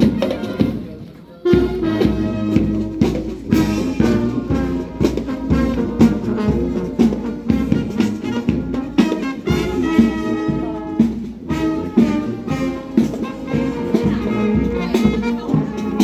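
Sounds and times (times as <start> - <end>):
brass marching band: 0.0 - 16.0
steady drumbeat: 0.0 - 16.0.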